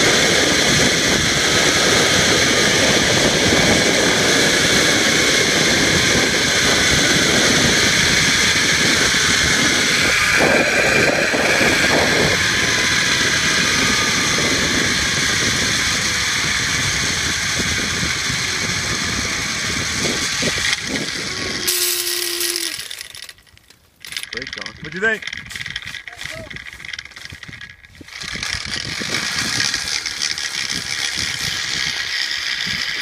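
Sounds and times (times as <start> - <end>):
wind buffeting microphone: 0.0 - 23.4, 24.0 - 33.0
zip line trolley whirring on cable: 0.0 - 33.0.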